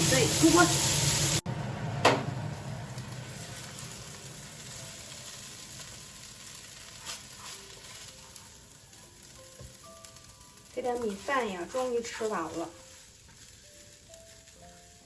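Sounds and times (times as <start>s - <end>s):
rice sizzling in a pan: 0.0s - 15.0s.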